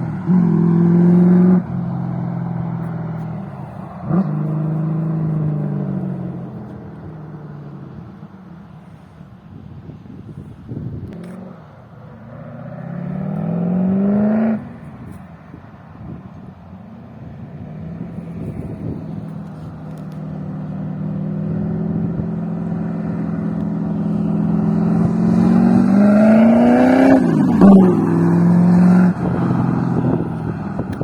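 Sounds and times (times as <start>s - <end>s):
car engine exhaust passing by: 0.0s - 31.0s.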